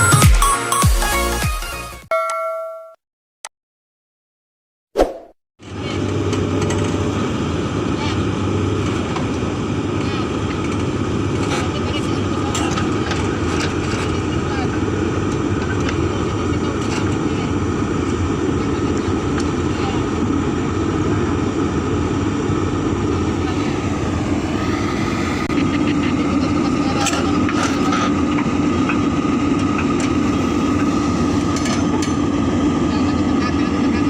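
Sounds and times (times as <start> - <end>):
excavator diesel engine running: 5.7 - 34.0.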